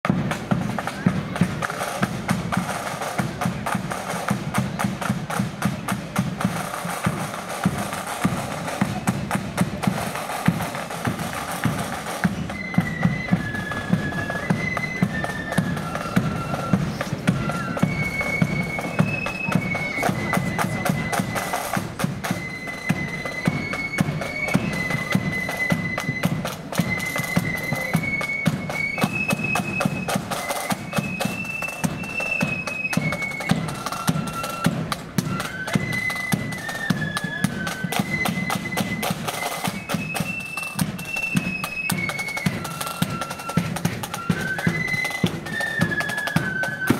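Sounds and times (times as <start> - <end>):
flutes playing melody: 0.1 - 46.9.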